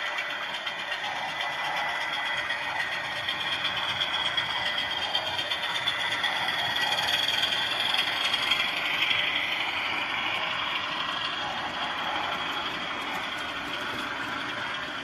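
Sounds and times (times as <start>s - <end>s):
diesel engine sound from small speaker: 0.0s - 15.0s.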